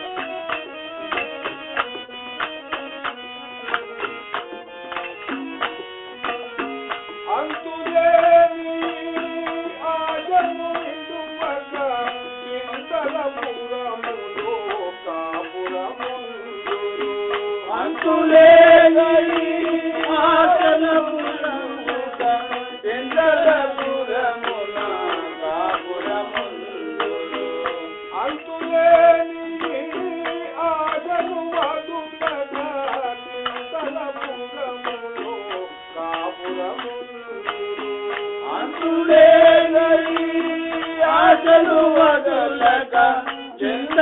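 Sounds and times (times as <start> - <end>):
tabla rhythm: 0.0 - 44.0.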